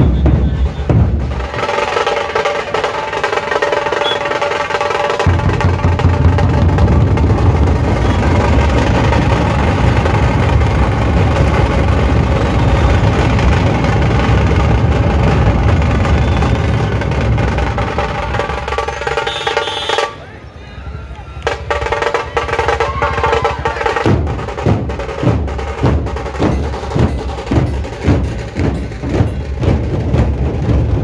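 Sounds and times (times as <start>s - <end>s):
big barrel drums beating: 0.0s - 20.1s, 21.4s - 31.0s
rapid snare drum rolls: 0.0s - 20.1s, 21.4s - 31.0s.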